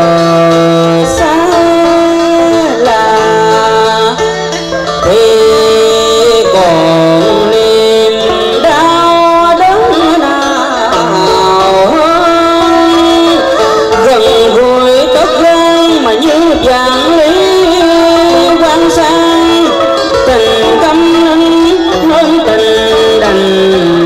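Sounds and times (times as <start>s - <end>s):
live band with plucked strings: 0.0s - 24.0s
person singing into a microphone: 0.0s - 24.0s.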